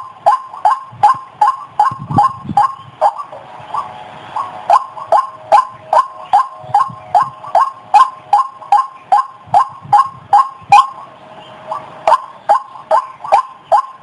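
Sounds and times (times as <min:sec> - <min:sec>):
waterhen calling: 0:00.0 - 0:14.0.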